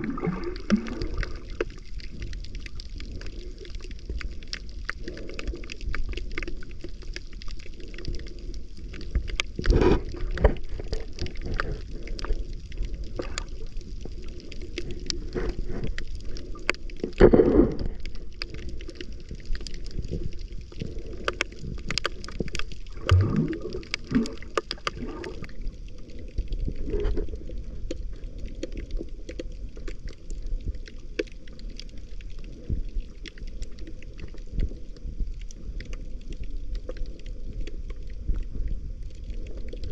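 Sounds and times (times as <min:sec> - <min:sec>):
underwater clicks and crackles: 0:00.0 - 0:39.9
underwater rumble: 0:00.0 - 0:39.9.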